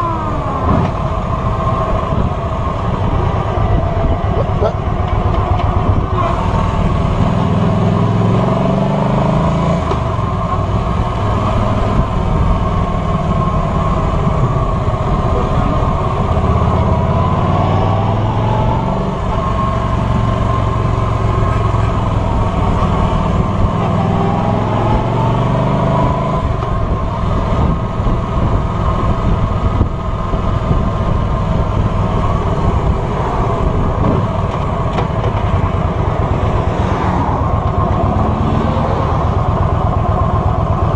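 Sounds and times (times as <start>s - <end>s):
wind noise on microphone: 0.0s - 8.8s, 9.5s - 40.9s
motorcycle engine accelerating: 0.0s - 40.9s.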